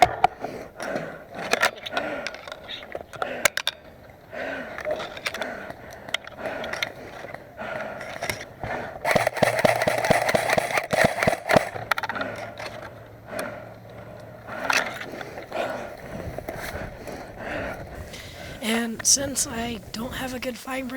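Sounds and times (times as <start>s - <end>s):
gear rustling and knocking: 0.0s - 19.5s
clicks and scuffs: 0.0s - 19.7s.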